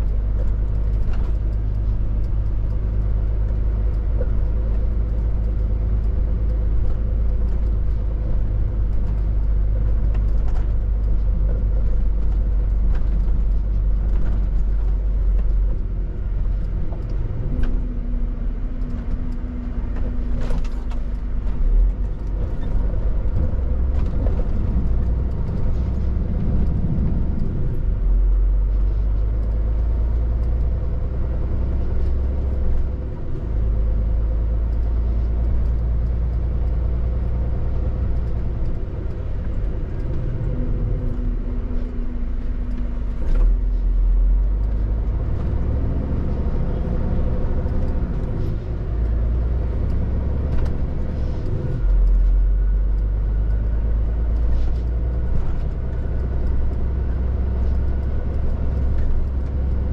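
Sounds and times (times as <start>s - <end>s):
lorry engine drone: 0.0s - 59.9s
road rumble: 0.0s - 59.9s.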